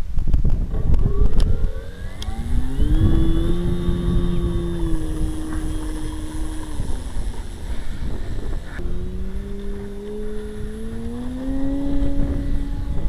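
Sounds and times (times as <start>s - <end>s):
wind on microphone: 0.0s - 13.0s
model plane motor and propeller: 0.5s - 13.0s.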